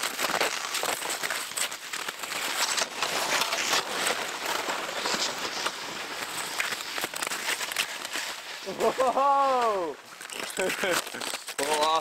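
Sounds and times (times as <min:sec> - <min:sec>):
load dragging on snow: 0:00.0 - 0:12.0
snowshoes crunching in snow: 0:00.0 - 0:12.0.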